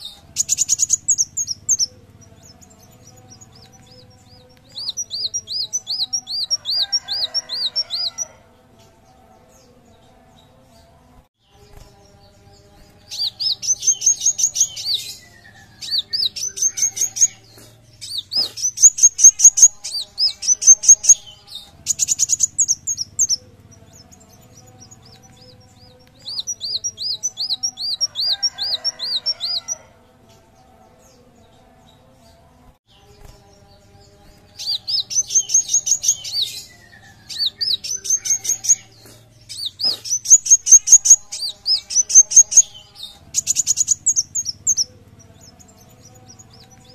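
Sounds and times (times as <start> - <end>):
sunbird chirping song: 0.0 - 46.9.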